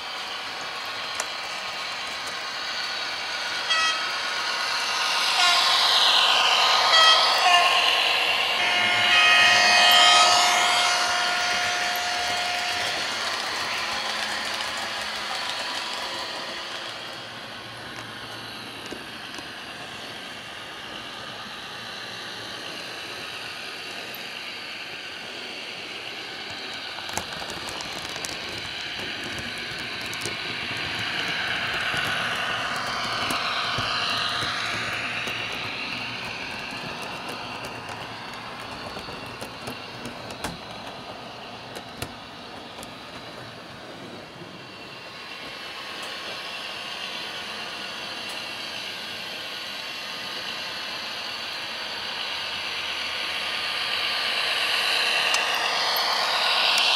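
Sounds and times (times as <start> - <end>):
model train diesel engine sound: 0.0 - 56.9
wheels clicking on track: 0.0 - 56.9.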